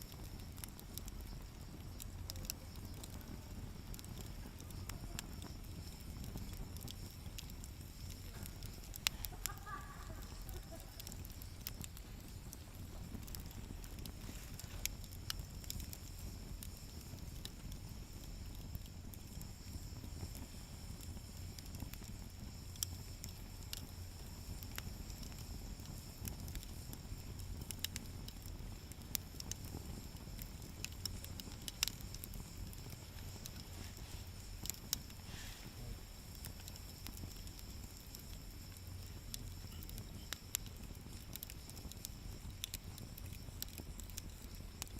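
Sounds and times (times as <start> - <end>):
fire crackling and popping: 0.0 - 44.9
fire low rumble: 0.0 - 44.9.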